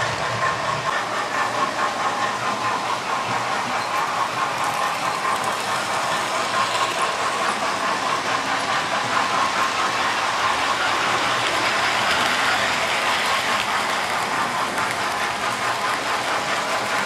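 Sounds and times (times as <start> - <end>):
model train motor whine: 0.0 - 17.0
wheels rattling over rails: 0.0 - 17.0.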